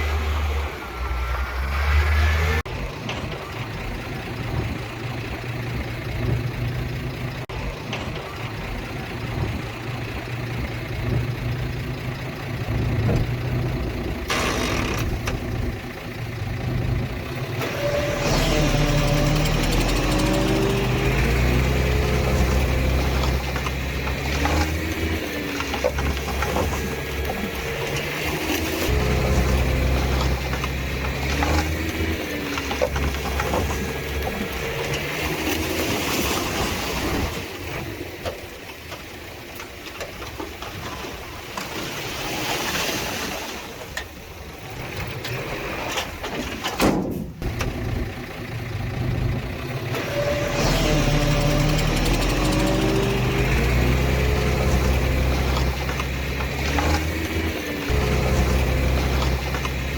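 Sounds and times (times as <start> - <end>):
heavy machinery diesel engine rumbling: 0.0 - 59.9.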